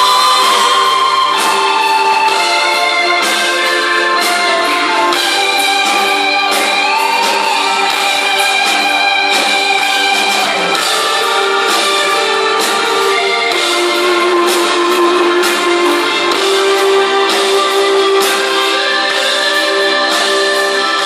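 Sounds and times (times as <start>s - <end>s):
drum and cymbal hits: 0.0s - 21.0s
guitar chords: 0.0s - 21.0s
keyboard chords: 0.0s - 21.0s.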